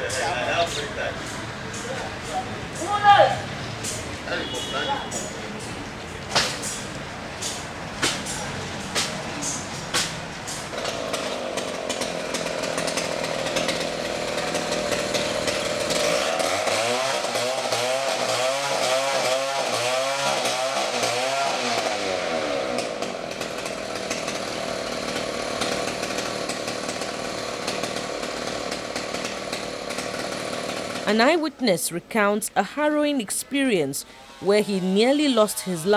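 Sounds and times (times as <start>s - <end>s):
chainsaw running: 0.0s - 31.7s, 33.3s - 35.9s.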